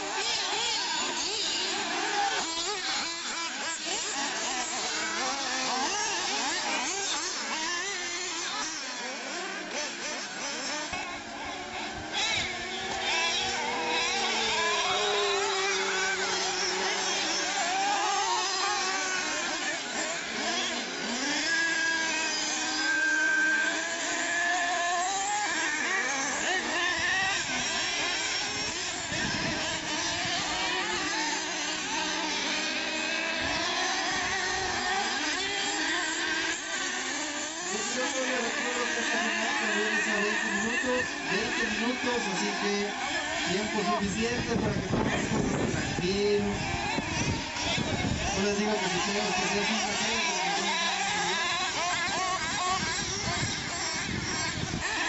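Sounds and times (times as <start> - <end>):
small motors buzzing: 0.0 - 55.0.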